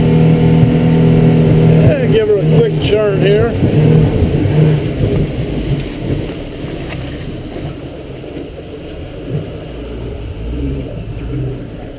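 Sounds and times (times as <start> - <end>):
boat motor droning: 0.0 - 11.9
hull running through water: 0.0 - 11.9.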